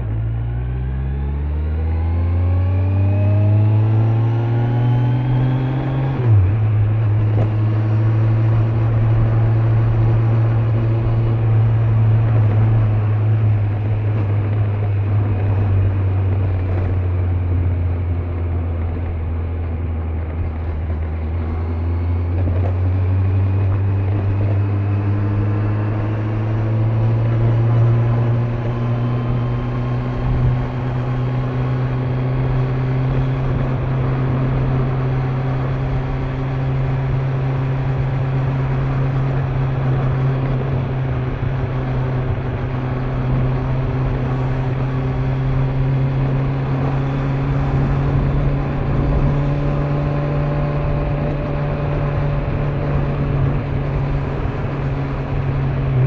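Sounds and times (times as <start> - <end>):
motorcycle engine accelerating: 0.0 - 56.0
wind and tyre noise: 0.0 - 56.0.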